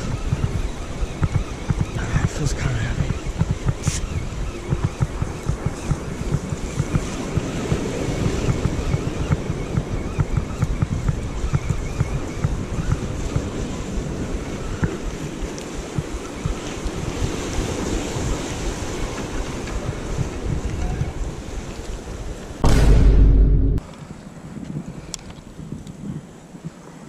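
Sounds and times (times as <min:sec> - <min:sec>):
ocean surf washing ashore: 0:00.0 - 0:22.7
wind buffeting microphone: 0:00.0 - 0:27.0.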